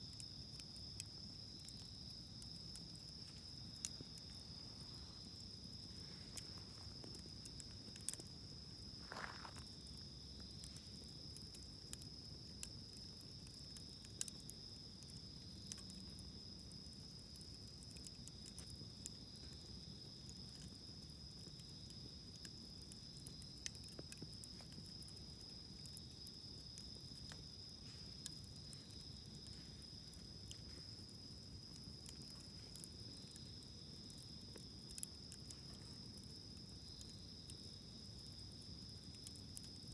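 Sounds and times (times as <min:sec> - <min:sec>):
campfire crackling and popping: 0:00.0 - 0:39.9
insect chirring: 0:00.0 - 0:39.9.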